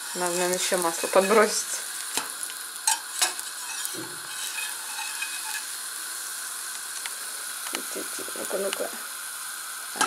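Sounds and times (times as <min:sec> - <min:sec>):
bread sizzling in oil: 0:00.0 - 0:10.0.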